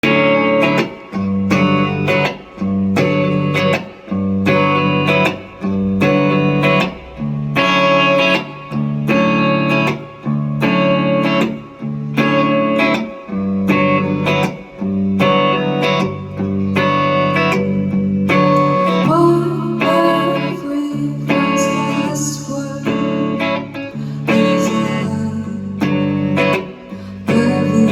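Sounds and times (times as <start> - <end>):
guitar strumming chords: 0.0 - 27.9.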